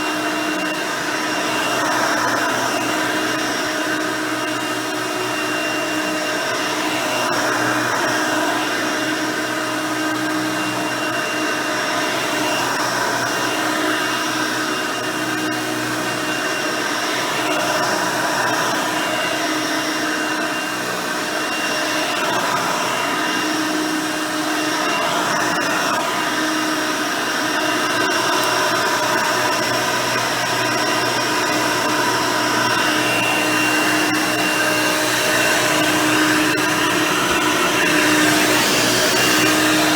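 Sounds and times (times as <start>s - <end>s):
upright vacuum cleaner whining: 0.0s - 39.9s.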